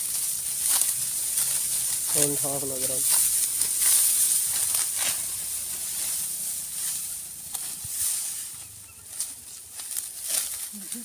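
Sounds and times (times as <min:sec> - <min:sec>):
dry stalks rustling: 0:00.0 - 0:11.0
sickle rasping through stalks: 0:00.0 - 0:11.0.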